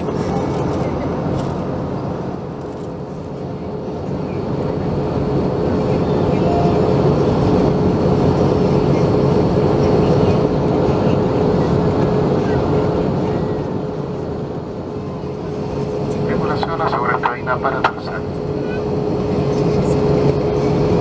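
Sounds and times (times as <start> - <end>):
airflow rush in cabin: 0.0 - 21.0
jet engines humming: 0.0 - 21.0.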